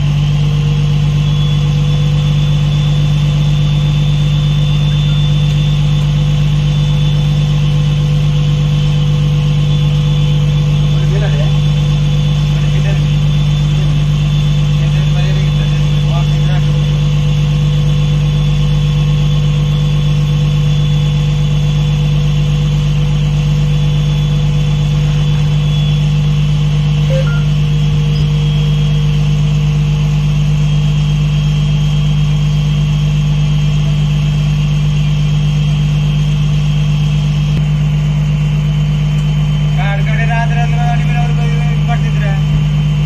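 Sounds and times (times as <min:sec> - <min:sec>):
boat diesel engine droning: 0:00.0 - 0:43.0.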